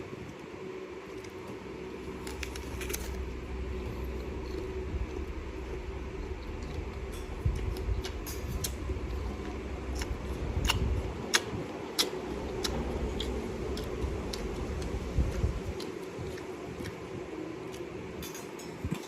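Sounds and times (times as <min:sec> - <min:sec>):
low rumble and hum: 0:00.0 - 0:19.0
person eating fruit: 0:01.0 - 0:19.0.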